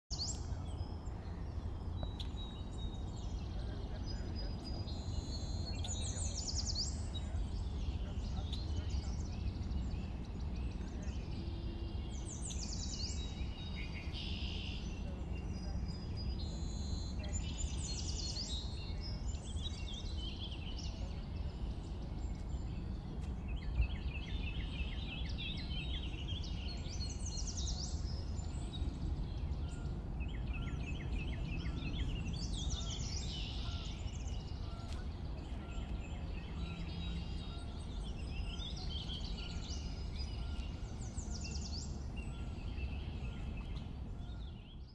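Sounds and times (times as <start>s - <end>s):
songbirds singing and trilling: 0.1s - 44.9s
low outdoor rumble: 0.2s - 44.9s.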